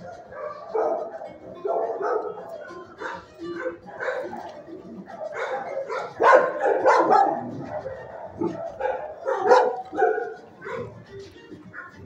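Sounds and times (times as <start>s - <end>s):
dog barking: 0.0s - 11.1s.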